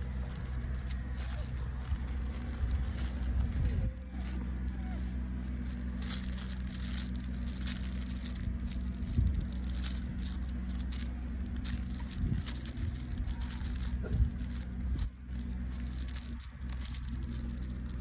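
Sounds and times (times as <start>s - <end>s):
crackling and crinkling of leaves: 0.0s - 18.0s
steady low rumble: 0.0s - 18.0s.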